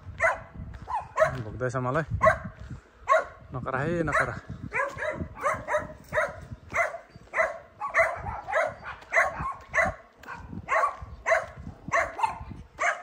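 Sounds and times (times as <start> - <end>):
dog barking: 0.2 - 1.4, 2.2 - 3.4, 4.1 - 13.0.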